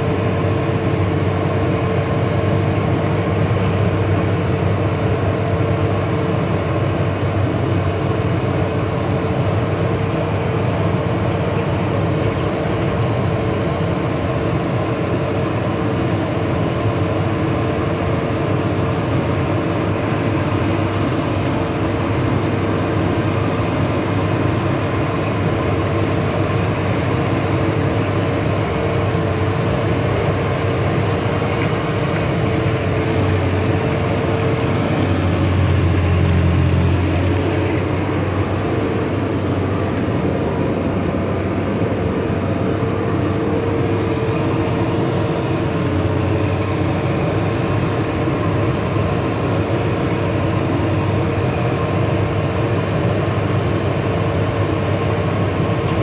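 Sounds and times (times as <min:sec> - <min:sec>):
constant whine: 0:00.0 - 0:56.0
vehicle engine rumble: 0:00.0 - 0:56.0.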